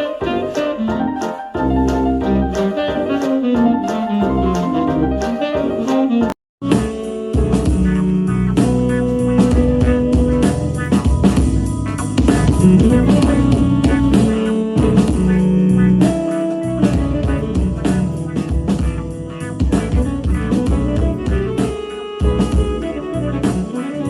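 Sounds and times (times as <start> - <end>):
blues rock music over speaker: 0.0 - 24.0.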